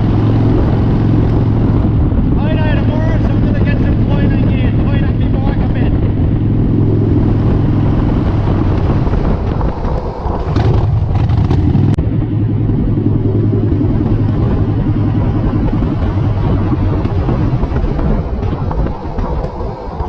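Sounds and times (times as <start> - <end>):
motorcycle engine running: 0.0 - 20.0
rushing wind noise: 0.0 - 20.0.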